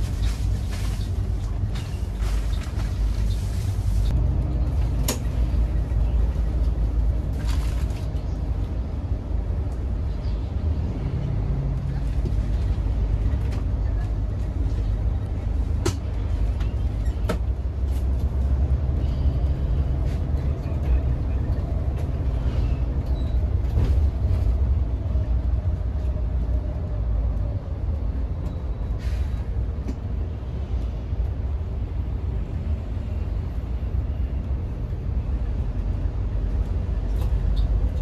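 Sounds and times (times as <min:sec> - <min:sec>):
low rumble of engine and road: 0:00.0 - 0:38.0.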